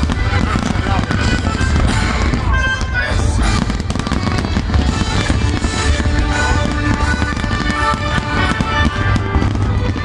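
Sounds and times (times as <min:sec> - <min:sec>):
music playing: 0:00.0 - 0:10.0.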